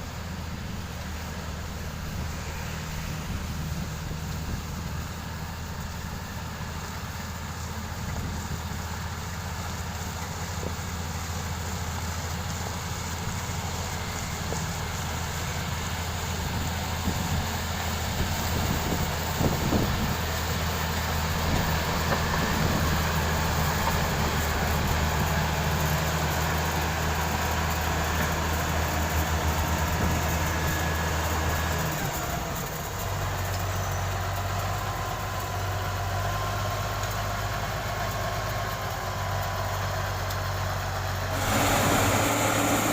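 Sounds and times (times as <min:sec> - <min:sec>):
diesel construction machinery running: 0:00.0 - 0:42.9.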